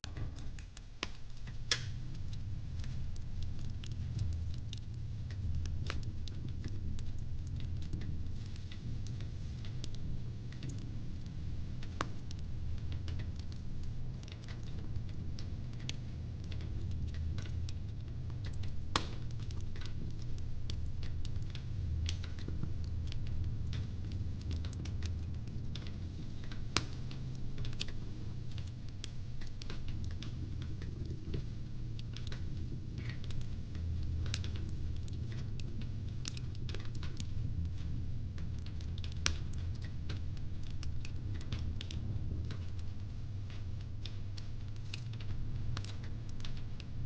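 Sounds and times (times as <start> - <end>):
low steady rumble: 0.0 - 47.0
wood fire crackling: 0.0 - 47.0.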